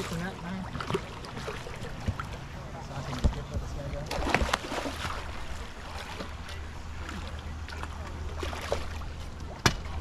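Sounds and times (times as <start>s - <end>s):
fish splashing and thrashing: 0.0s - 10.0s.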